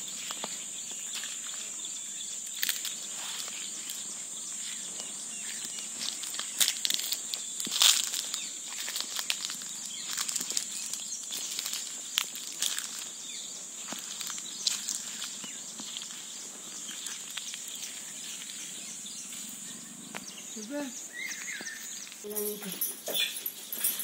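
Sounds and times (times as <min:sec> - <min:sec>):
dry leaves crackling underfoot: 0:00.0 - 0:24.0
steady high-pitched hiss: 0:00.0 - 0:24.0.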